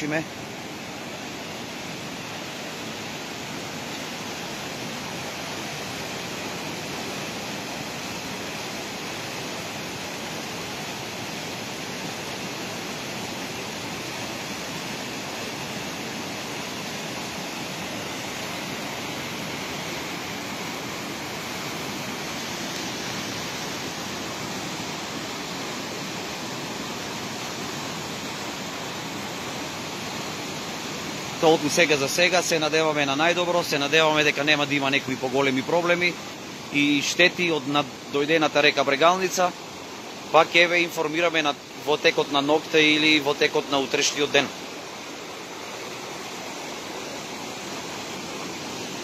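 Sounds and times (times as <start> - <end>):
river rushing in flood: 0.0 - 49.0.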